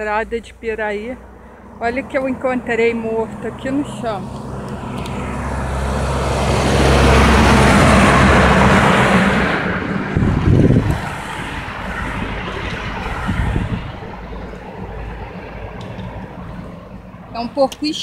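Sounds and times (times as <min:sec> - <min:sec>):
lorry passing by: 0:00.0 - 0:18.0.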